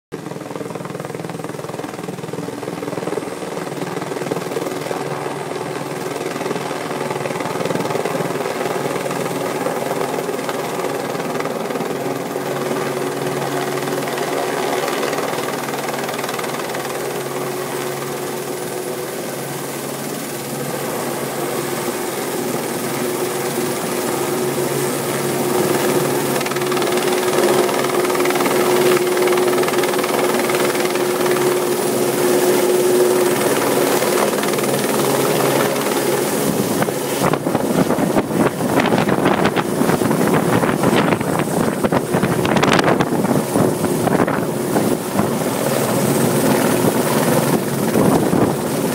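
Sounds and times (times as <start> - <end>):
helicopter rotor and engine drone: 0.1 - 48.9.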